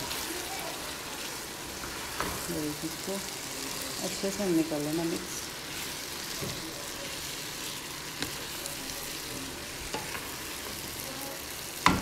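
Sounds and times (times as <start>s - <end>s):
chickpeas sizzling in hot oil: 0.0s - 12.0s.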